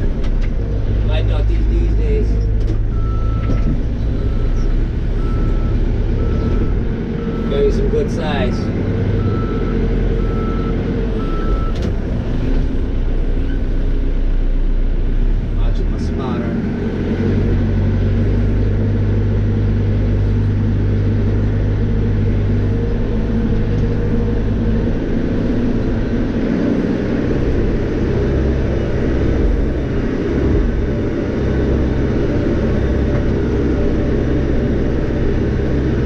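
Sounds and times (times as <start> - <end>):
backhoe diesel engine running: 0.0 - 36.0.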